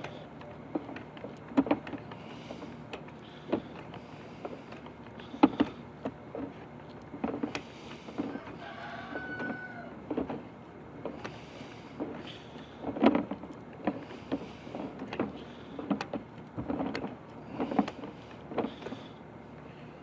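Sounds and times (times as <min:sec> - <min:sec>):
cable knocks and clicks: 0:00.0 - 0:08.5, 0:09.4 - 0:11.3, 0:12.8 - 0:19.1
steady low hum: 0:00.0 - 0:20.0.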